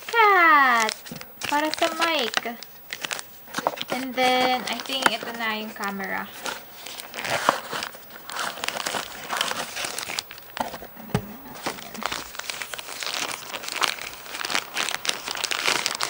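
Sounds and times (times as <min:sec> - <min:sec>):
wrap and cardboard rustling: 0:00.0 - 0:16.0.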